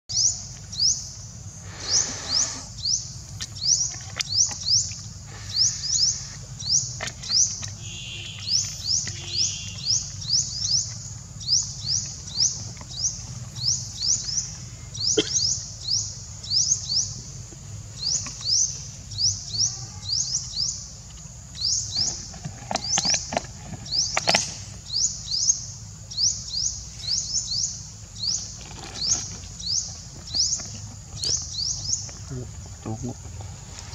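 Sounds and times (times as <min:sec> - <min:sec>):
bird chirping: 0:00.1 - 0:33.9.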